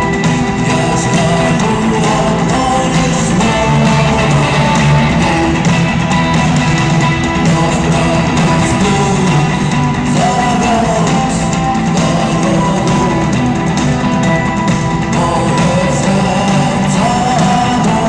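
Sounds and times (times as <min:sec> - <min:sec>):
rock band playing live: 0:00.0 - 0:18.0.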